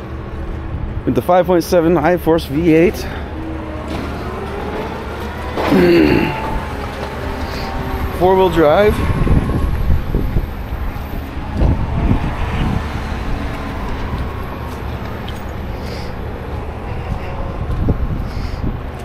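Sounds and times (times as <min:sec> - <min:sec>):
low engine hum: 0:00.0 - 0:19.0
outdoor noise: 0:00.0 - 0:19.0.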